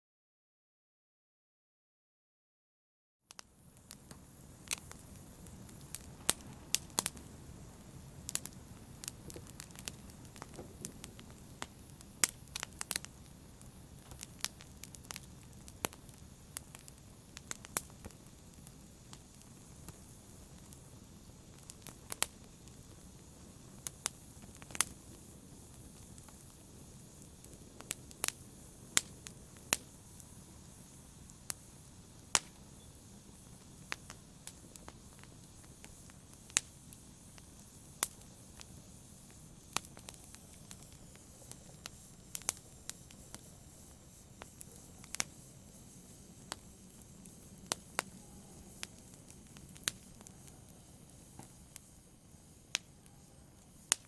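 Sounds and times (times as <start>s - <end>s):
wood fire crackling in fireplace: 3.3s - 54.0s.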